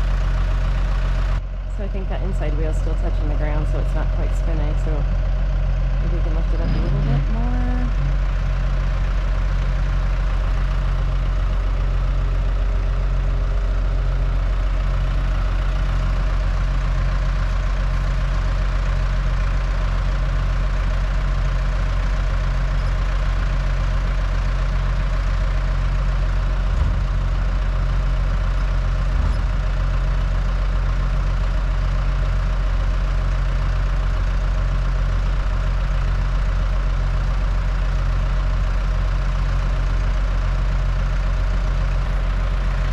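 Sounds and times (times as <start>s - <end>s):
loader engine idling: 0.0s - 42.9s.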